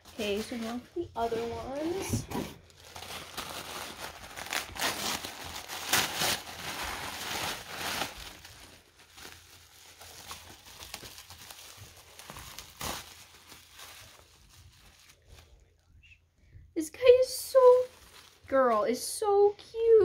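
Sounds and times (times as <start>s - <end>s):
paper and bubble wrap crinkling: 0.0s - 16.1s, 17.0s - 20.0s.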